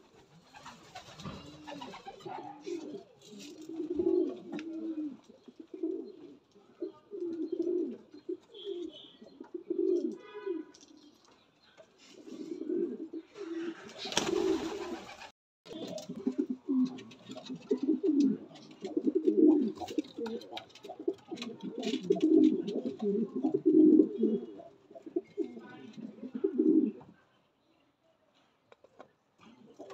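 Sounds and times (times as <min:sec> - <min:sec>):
pigeons cooing: 0:00.2 - 0:11.1, 0:12.0 - 0:27.1, 0:29.5 - 0:29.9.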